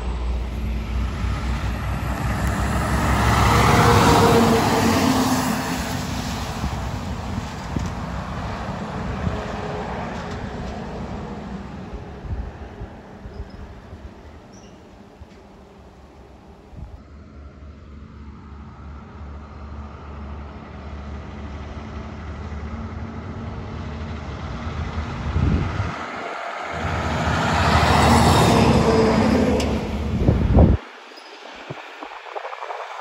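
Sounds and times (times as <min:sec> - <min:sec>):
diesel truck engine: 0:00.0 - 0:32.8.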